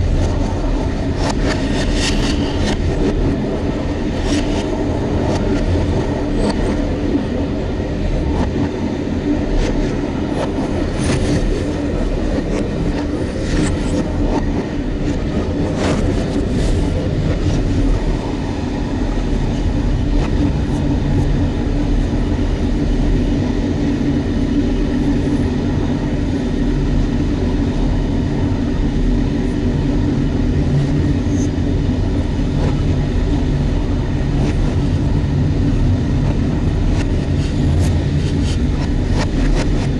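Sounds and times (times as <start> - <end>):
train rumbling and humming: 0.0 - 39.9.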